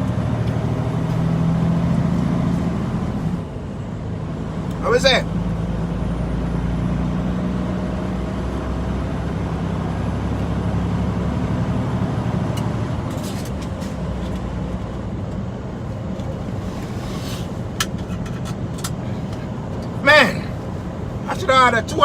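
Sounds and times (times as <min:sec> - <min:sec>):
diesel engine drone: 0:00.0 - 0:22.0
road and tyre noise: 0:00.0 - 0:22.0.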